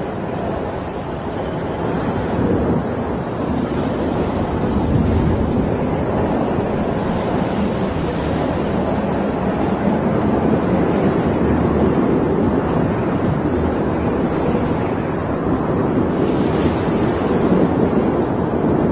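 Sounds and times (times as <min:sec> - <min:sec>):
rushing wind-like rumble: 0:00.0 - 0:18.9.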